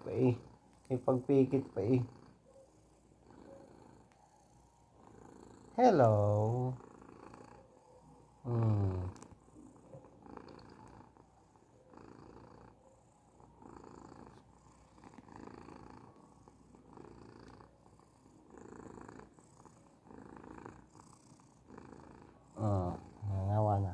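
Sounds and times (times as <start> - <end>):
cat purring: 0.0 - 23.9.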